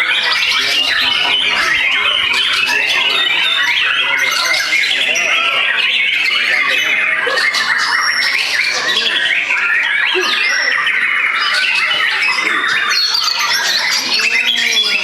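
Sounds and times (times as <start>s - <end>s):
chorus of songbirds: 0.0s - 15.0s.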